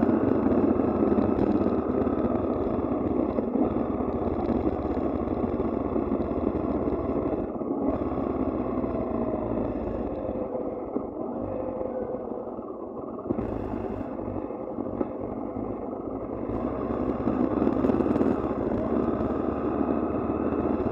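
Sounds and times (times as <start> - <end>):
motorcycle engine: 0.0 - 20.9
wind and road noise: 0.0 - 20.9.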